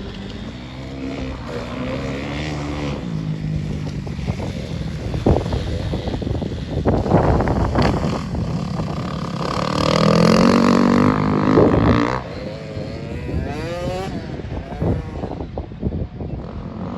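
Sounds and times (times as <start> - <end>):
dirt bike engine revving: 0.0 - 15.7
rough rumbling noise: 0.0 - 16.8.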